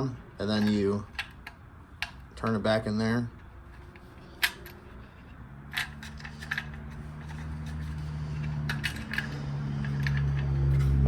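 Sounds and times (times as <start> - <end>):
low steady hum: 0.0 - 11.0
latches clicking and scraping: 0.4 - 2.6, 3.3 - 11.0.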